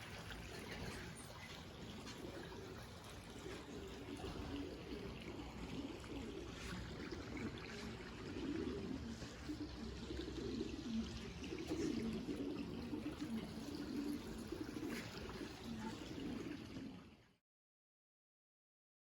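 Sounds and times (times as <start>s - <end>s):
pigeons cooing softly: 0.0s - 17.4s.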